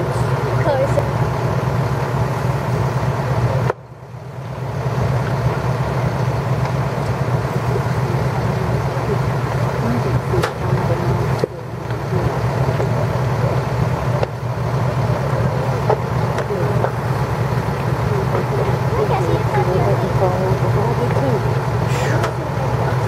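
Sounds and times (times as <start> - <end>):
diesel engines humming: 0.0 - 23.0.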